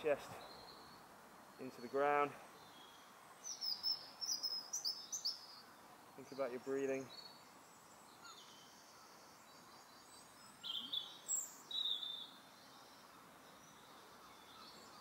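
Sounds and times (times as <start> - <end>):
background hiss: 0.0 - 15.0
birds chirping: 0.0 - 15.0.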